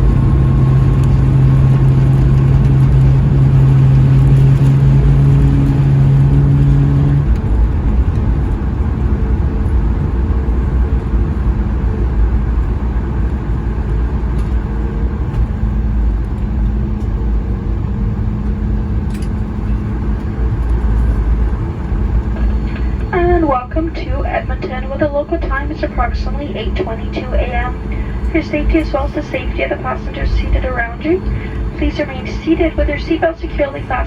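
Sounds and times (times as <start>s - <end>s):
aircraft cabin low rumble: 0.0s - 34.0s
low engine hum: 0.0s - 34.0s.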